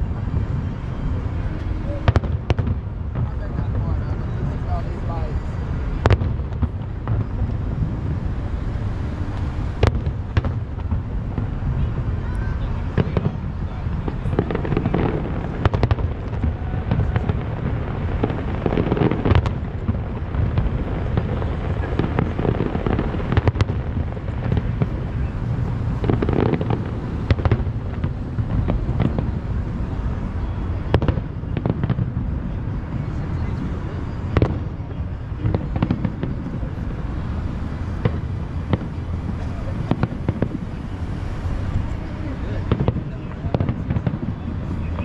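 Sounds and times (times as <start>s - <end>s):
distant fireworks bangs and crackles: 0.0s - 45.0s
low background noise: 0.0s - 45.0s.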